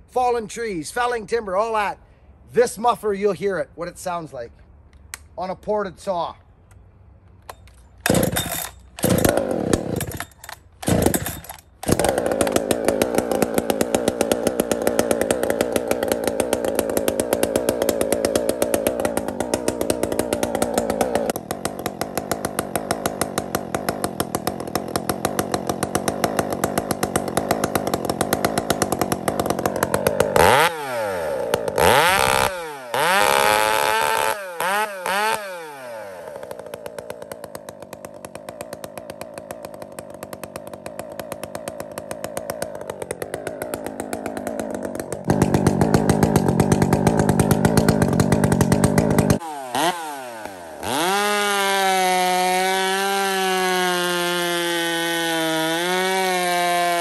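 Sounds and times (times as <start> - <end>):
chainsaw cutting log: 7.4 - 57.0
chainsaw revving: 8.0 - 57.0.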